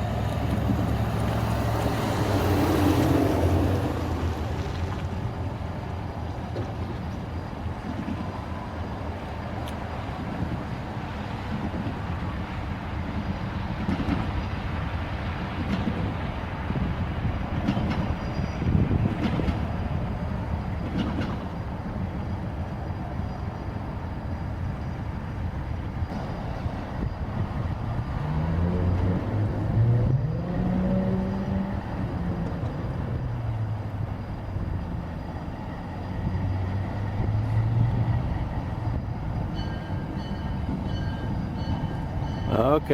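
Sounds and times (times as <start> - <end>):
diesel locomotive rumbling: 0.0 - 42.9.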